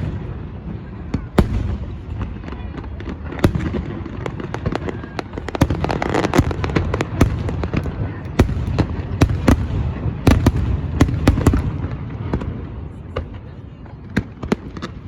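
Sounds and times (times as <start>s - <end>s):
heavy firework booms: 0.0s - 13.4s
fireworks bangs and crackles: 0.0s - 15.0s.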